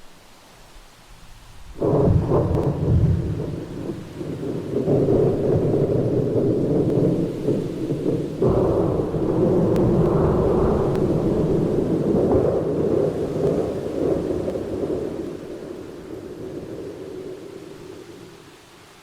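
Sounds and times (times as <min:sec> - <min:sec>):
thunder clap and rumble: 0:01.8 - 0:18.2.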